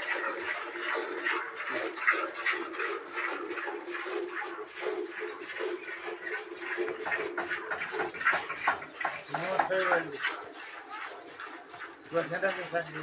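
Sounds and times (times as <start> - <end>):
milk squirting into steel pail: 0.0 - 13.0.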